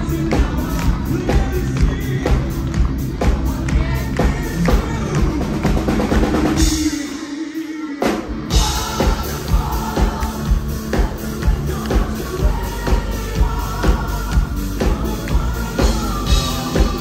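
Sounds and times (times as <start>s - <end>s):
live hard rock band: 0.0s - 17.0s.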